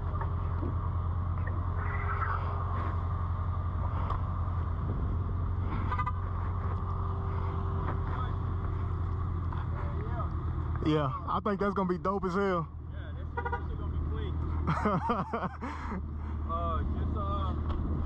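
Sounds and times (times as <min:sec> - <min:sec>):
car engine idling: 0:00.0 - 0:17.8.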